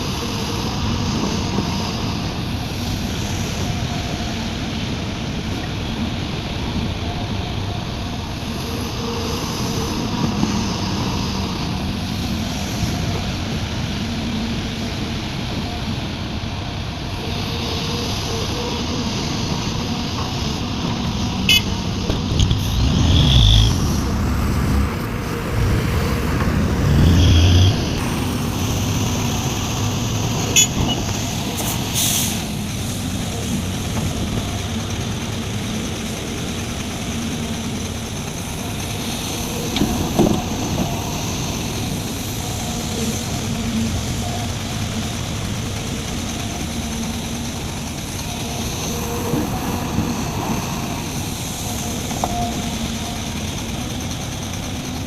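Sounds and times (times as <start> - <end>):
excavator diesel engine working: 0.0 - 55.0.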